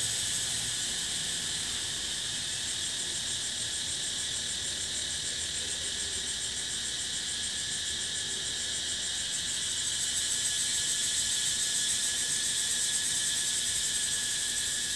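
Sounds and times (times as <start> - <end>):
cicadas singing in chorus: 0.0 - 14.9.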